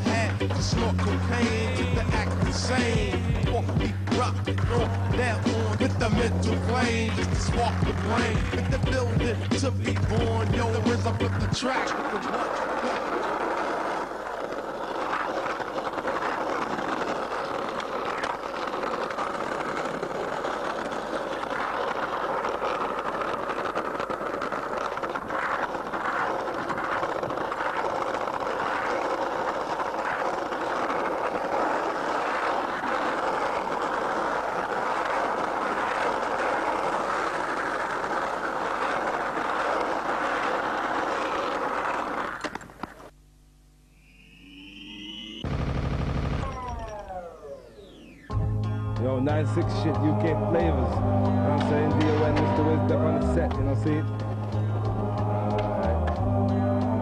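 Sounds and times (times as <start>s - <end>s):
skateboard clacks: 0.0s - 43.1s, 49.4s - 57.0s
skateboard wheels rolling on concrete: 0.0s - 43.3s, 46.4s - 57.0s.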